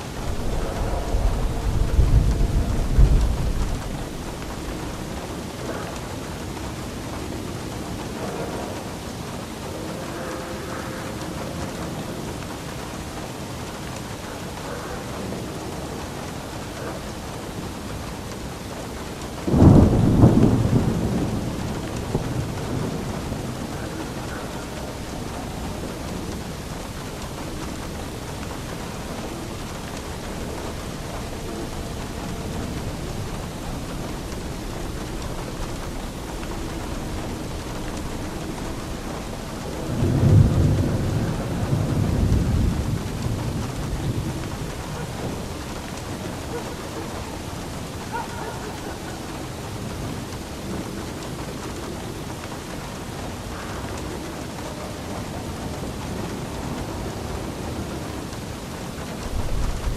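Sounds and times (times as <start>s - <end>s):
steady rain falling: 0.0s - 59.9s
thunder clap and rumble: 0.0s - 59.9s.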